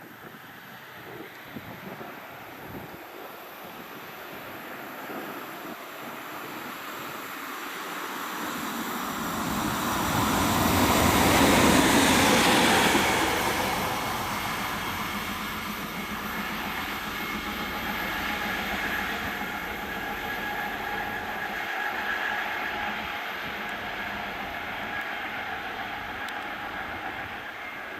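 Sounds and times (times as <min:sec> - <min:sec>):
electric locomotive passing: 0:00.0 - 0:27.9.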